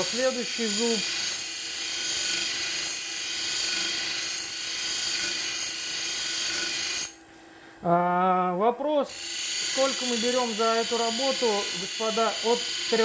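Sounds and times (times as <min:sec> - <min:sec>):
grinding wheel hissing on saw: 0:00.0 - 0:07.2, 0:09.1 - 0:13.0.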